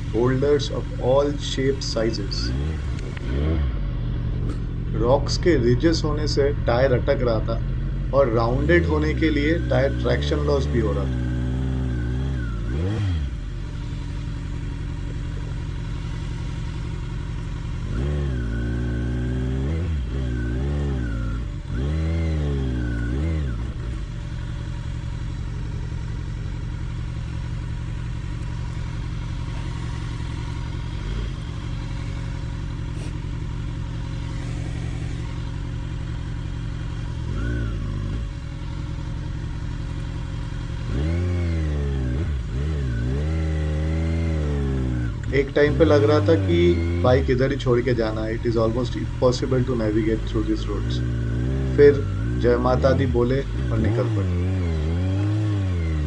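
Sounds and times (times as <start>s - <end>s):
engine throttle blips: 0.0s - 56.0s
motorcycle engine pulling at low revs: 0.0s - 56.0s.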